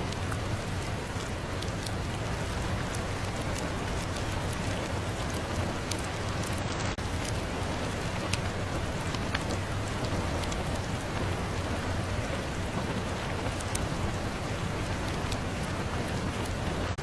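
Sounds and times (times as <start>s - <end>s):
dense rain: 0.0s - 17.0s.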